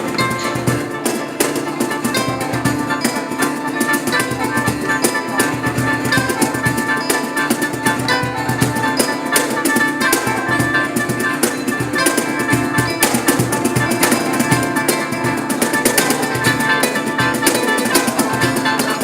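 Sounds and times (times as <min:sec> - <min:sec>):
drums and percussion beat: 0:00.0 - 0:19.0
live band playing: 0:00.0 - 0:19.0.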